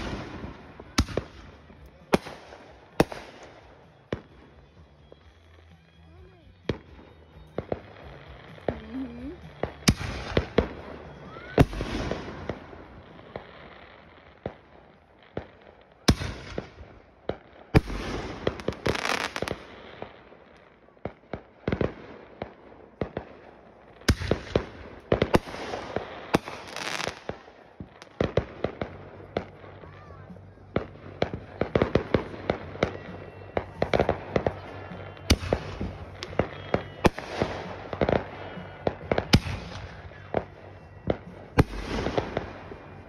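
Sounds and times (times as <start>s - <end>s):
fireworks bangs: 0.0s - 5.8s, 6.6s - 43.0s
fireworks crackling: 0.0s - 43.0s.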